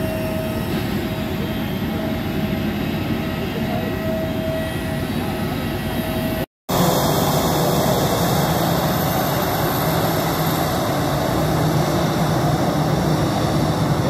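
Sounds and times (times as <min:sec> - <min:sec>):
jet engines idling: 0:00.0 - 0:14.0.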